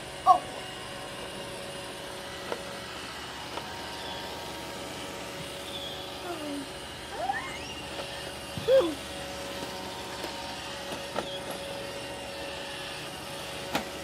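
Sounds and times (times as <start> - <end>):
robot vacuum humming: 0.0 - 14.0.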